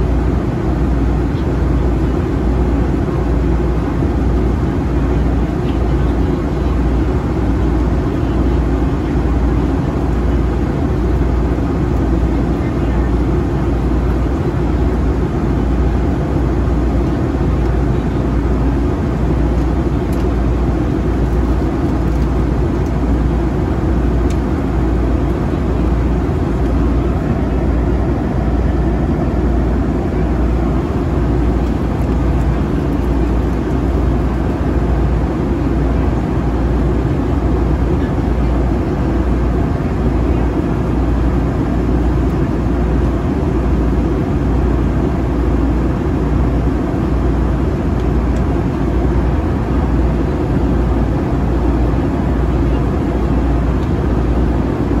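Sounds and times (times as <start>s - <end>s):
aircraft cabin engine and airflow rush: 0.0s - 55.0s.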